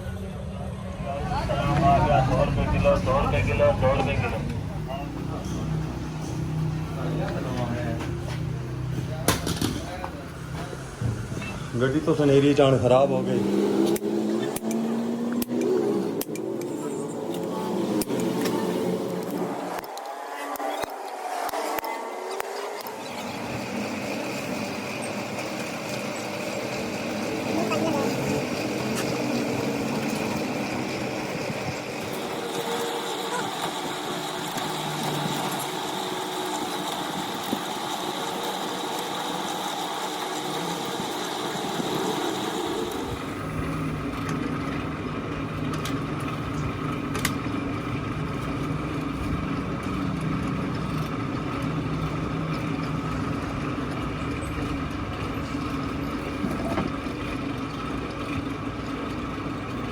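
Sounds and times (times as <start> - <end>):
constant high whine: 0.0 - 59.9
engine running: 0.0 - 59.9.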